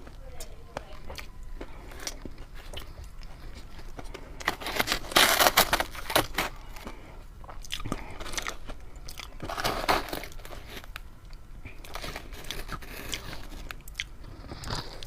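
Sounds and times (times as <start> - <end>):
ice crunching between teeth: 0.0 - 15.0.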